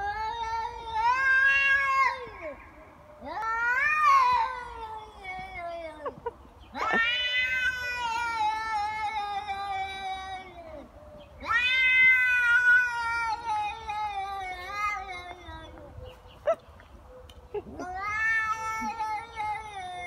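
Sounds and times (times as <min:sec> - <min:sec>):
cat yowling: 0:00.0 - 0:06.2, 0:06.8 - 0:15.9, 0:17.7 - 0:20.0.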